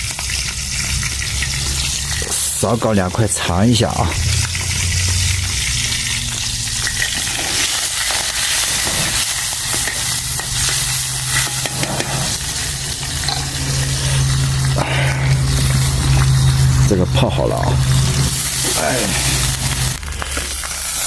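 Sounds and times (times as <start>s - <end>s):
pork sizzling in oil: 0.0s - 21.0s.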